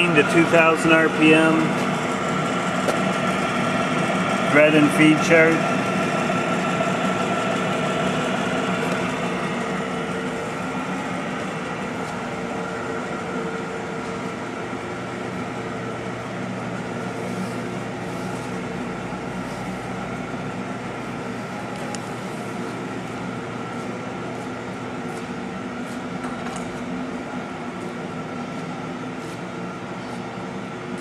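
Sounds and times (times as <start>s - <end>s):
lathe motor humming: 0.0s - 31.0s.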